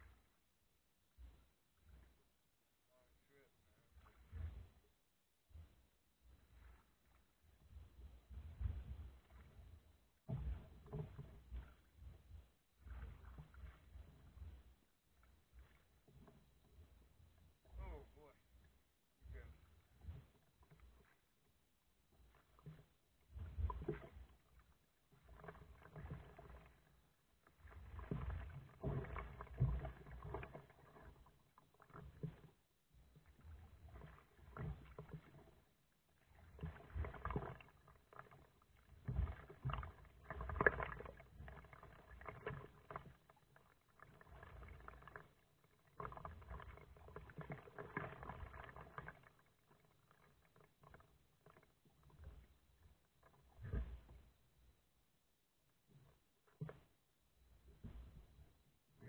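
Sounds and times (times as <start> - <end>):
paddle splashing in water: 3.8 - 4.9, 5.6 - 54.6.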